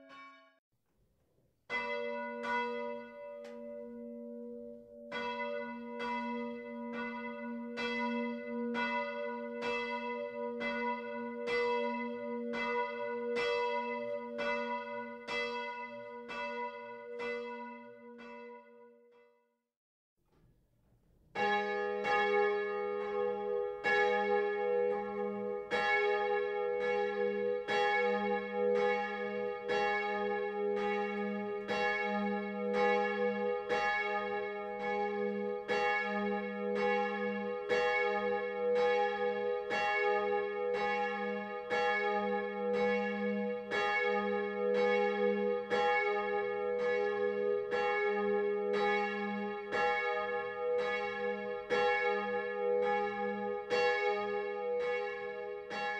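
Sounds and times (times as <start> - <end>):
church bell ringing: 0.0 - 0.5, 1.7 - 19.3, 21.4 - 55.9.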